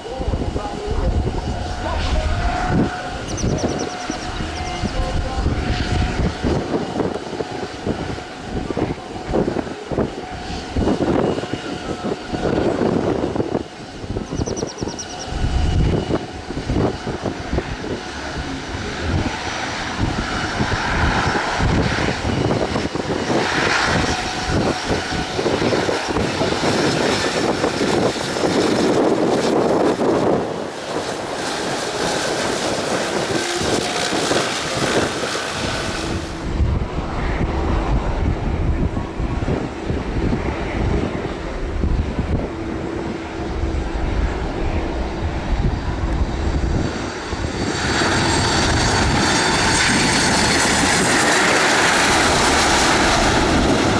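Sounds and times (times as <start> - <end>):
aircraft engines running: 0.0 - 53.9
wind buffeting microphone: 0.0 - 53.9.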